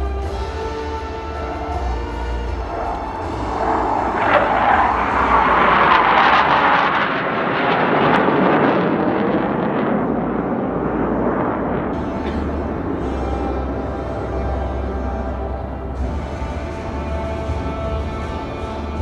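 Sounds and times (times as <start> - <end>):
jets flying past: 0.2 - 19.0.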